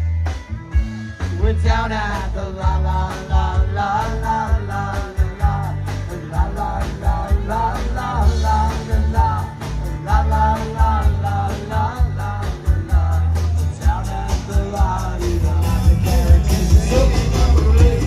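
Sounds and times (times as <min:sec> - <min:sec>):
live band playing rock song: 0:00.0 - 0:18.0
steady drum beat: 0:00.0 - 0:18.0.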